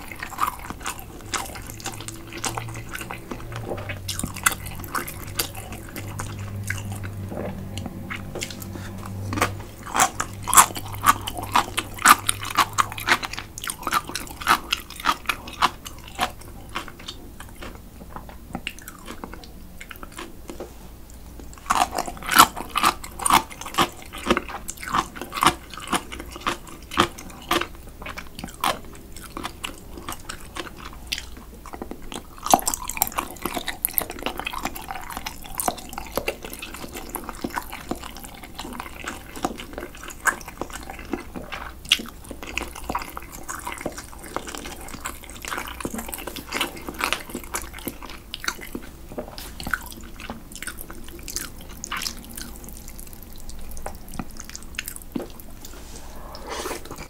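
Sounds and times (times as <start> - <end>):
person chewing noodles: 0.0 - 57.0.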